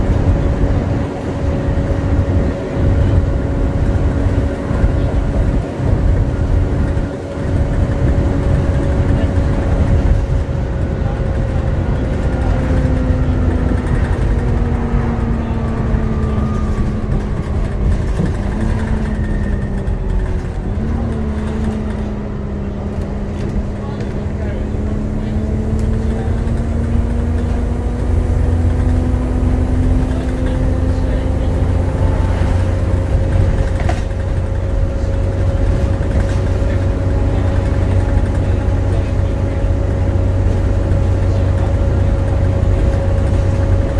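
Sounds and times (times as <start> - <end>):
bus engine rumble with whine: 0.0 - 43.9.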